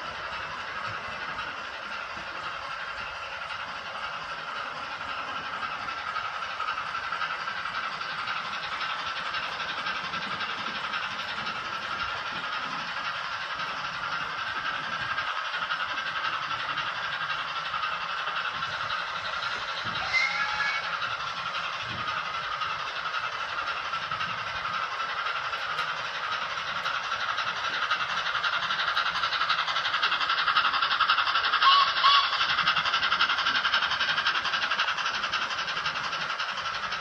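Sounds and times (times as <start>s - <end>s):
steam locomotive hiss: 0.0s - 37.0s.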